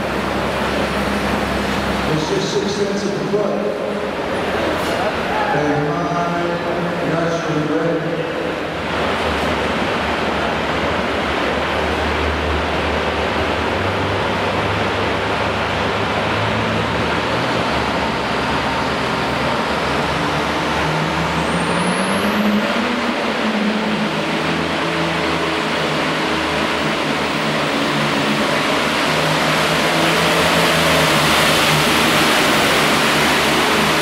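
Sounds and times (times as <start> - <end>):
tractor diesel engine wide open: 0.0 - 34.0.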